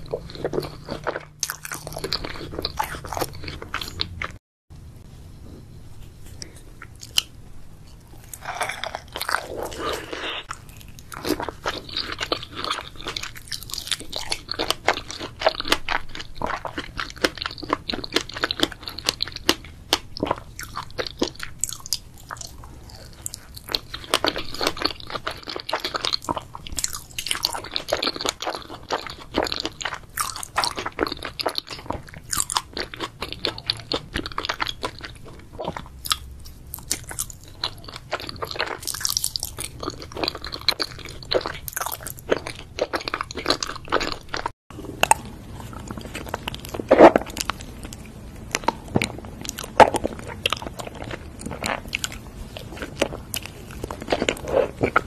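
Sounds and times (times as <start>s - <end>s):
person chewing sticky food: 0.0s - 4.4s, 6.2s - 55.0s.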